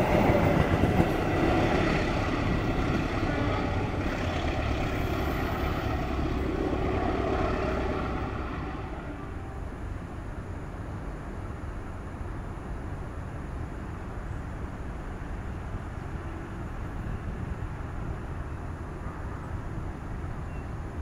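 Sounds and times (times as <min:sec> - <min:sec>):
locomotive engine drone: 0:00.0 - 0:20.4.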